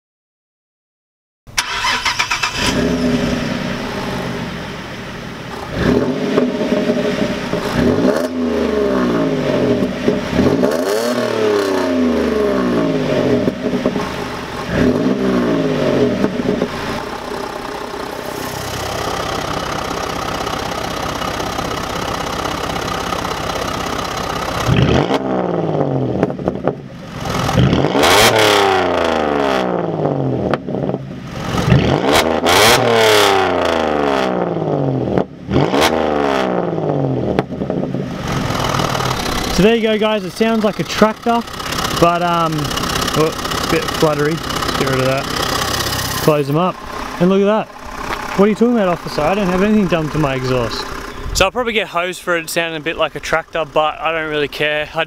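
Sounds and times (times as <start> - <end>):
car engine idling and revving: 1.5 - 55.0.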